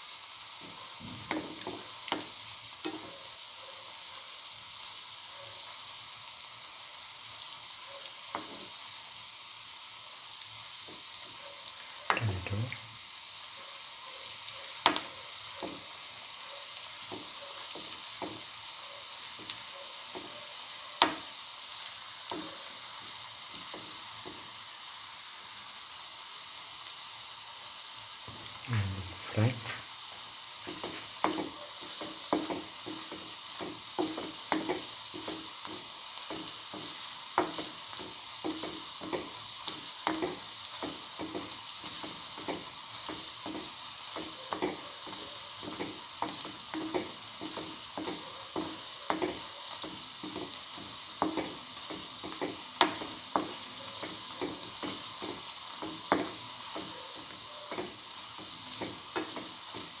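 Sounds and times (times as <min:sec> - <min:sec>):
fritters sizzling in hot oil: 0:00.0 - 1:00.0.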